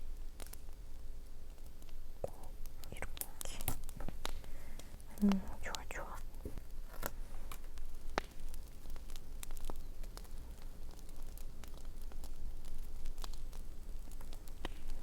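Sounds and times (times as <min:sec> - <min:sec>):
campfire crackling and popping: 0:00.0 - 0:15.0
faint steady hiss: 0:00.0 - 0:15.0.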